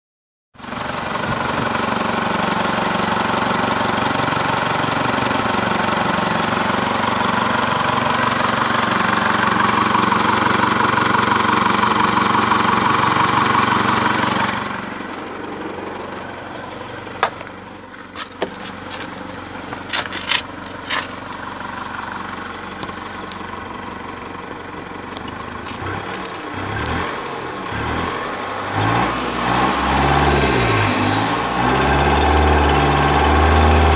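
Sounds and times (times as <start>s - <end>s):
diesel engine idling: 0.6s - 33.9s.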